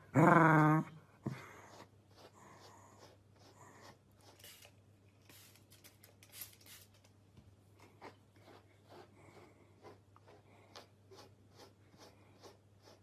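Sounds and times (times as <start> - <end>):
brush stroking dog fur: 1.3 - 7.0, 7.8 - 13.0.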